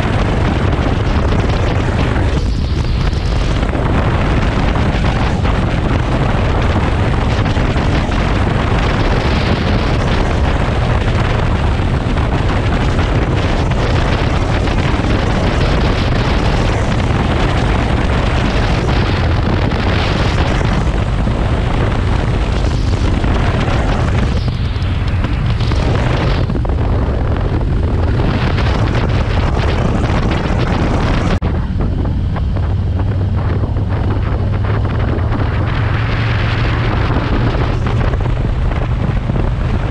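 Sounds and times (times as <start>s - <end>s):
motorcycle engine rumble: 0.0s - 39.9s
wind buffeting microphone: 0.0s - 39.9s.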